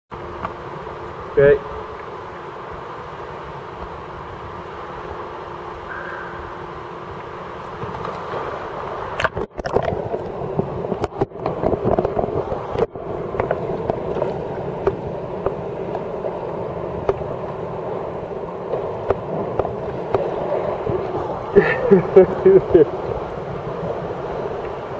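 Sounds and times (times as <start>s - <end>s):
water lapping: 0.2s - 24.9s
water sloshing and splashing: 0.2s - 24.9s.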